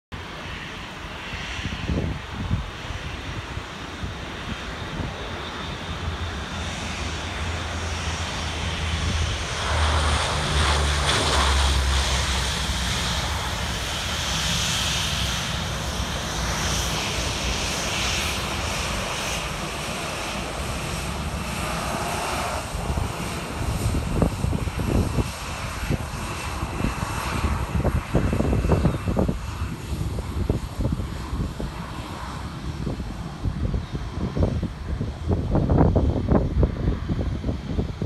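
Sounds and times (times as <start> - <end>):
turboprop engines droning: 0.2 - 38.0.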